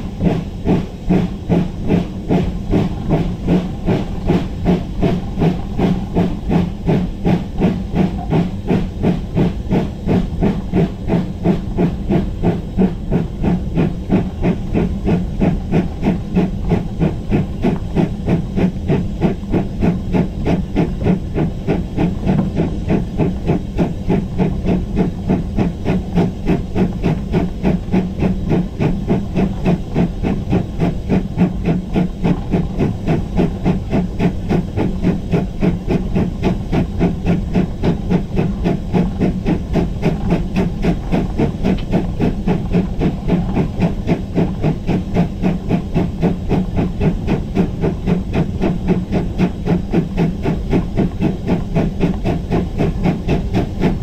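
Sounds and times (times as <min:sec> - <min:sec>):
hiss of steam: 0:00.0 - 0:54.0
steam locomotive exhaust chuffs: 0:00.0 - 0:54.0.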